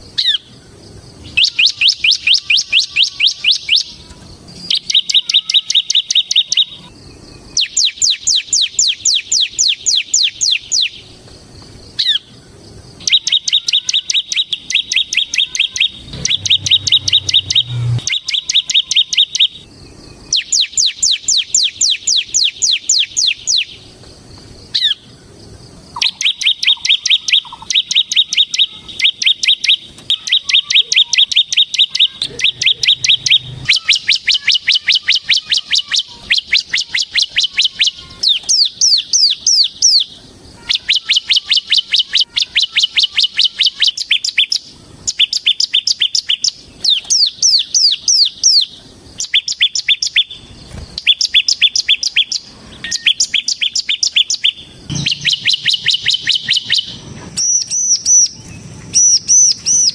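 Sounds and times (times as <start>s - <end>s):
bird singing rattling runs: 4.6s - 40.0s, 40.6s - 59.9s.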